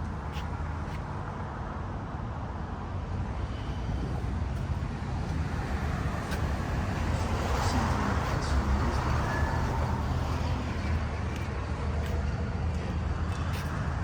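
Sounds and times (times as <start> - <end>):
rumble of passing cars: 0.0 - 14.0.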